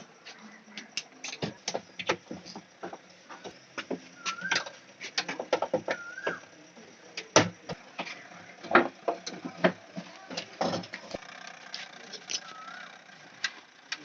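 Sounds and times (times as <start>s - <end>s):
tools and parts clicking and knocking: 0.9s - 6.5s, 7.2s - 14.0s.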